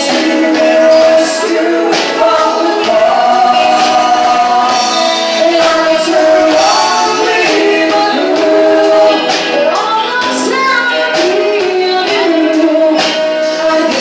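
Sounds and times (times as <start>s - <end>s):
electric guitars: 0.0s - 14.0s
percussion beat: 0.0s - 14.0s
woman singing into a microphone: 0.0s - 14.0s.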